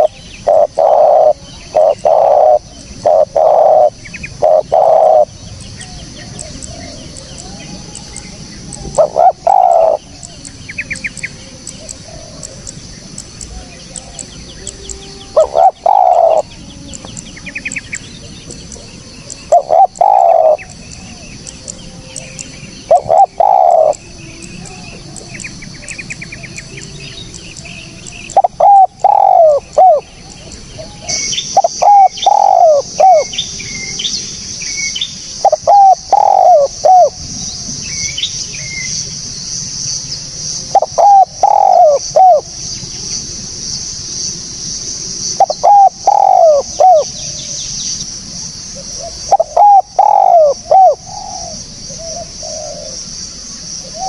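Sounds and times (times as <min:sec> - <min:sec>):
dove cooing: 0:00.0 - 0:34.1, 0:35.3 - 0:37.7, 0:40.6 - 0:42.6, 0:45.4 - 0:47.6, 0:48.7 - 0:53.2, 0:53.8 - 0:54.0
small birds chirping: 0:00.0 - 0:54.0
steady high hiss: 0:00.0 - 0:54.0.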